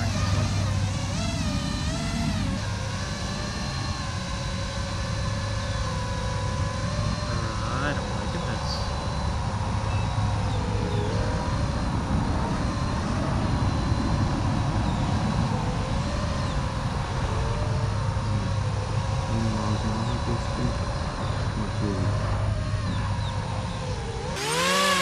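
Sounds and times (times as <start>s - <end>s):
drone motors whining: 0.0s - 25.0s
low rush of wind: 0.0s - 25.0s.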